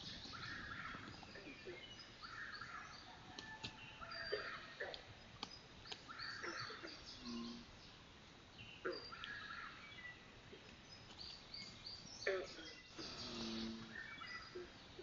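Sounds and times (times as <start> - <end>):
frogs and birds chirping: 0.0 - 15.0.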